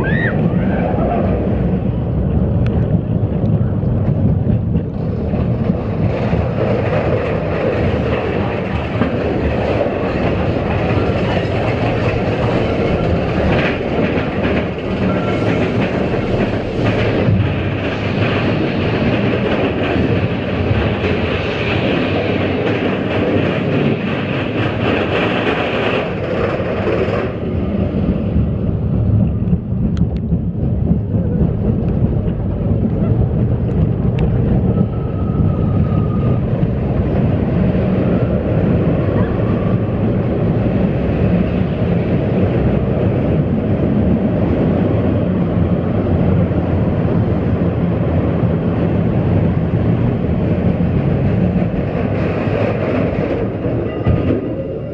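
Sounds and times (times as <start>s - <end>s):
roller coaster wheels rumbling: 0.0s - 54.9s.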